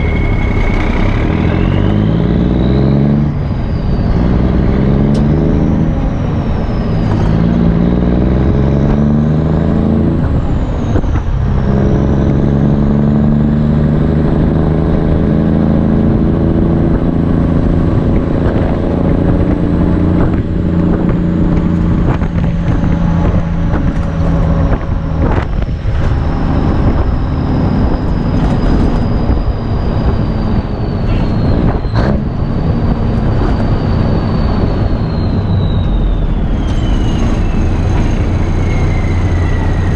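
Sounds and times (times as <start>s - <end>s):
diesel truck engine pulling through gears: 0.0s - 39.9s.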